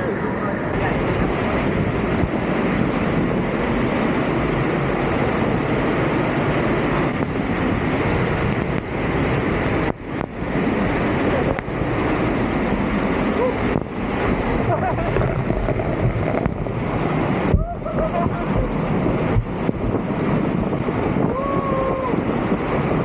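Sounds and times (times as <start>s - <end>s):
waterfall rushing: 0.1s - 23.0s.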